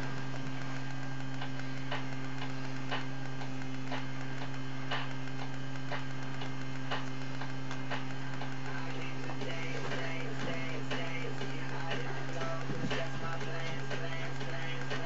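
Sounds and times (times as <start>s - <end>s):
steady electrical hum: 0.0s - 15.0s
strobe light ticking: 0.0s - 15.0s.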